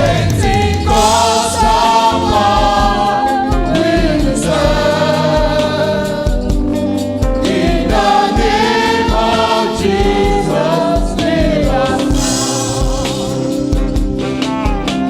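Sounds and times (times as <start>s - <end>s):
band playing: 0.0s - 15.0s
choir singing gospel song: 0.0s - 15.0s
low drum beat: 0.0s - 15.0s.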